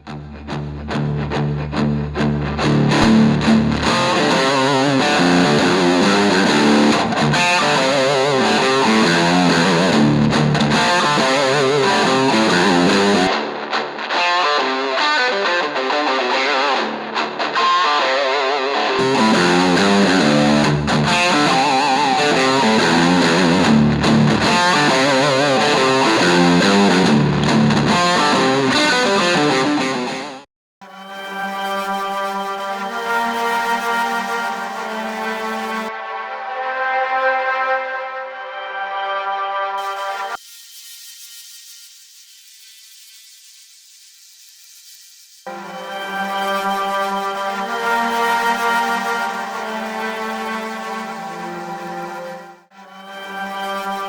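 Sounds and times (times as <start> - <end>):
distorted electric guitar riff: 0.0 - 37.2, 39.7 - 43.8, 45.5 - 54.0.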